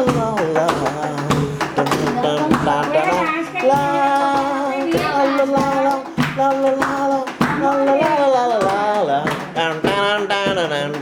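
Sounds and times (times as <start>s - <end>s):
sharp percussive taps: 0.0s - 11.0s.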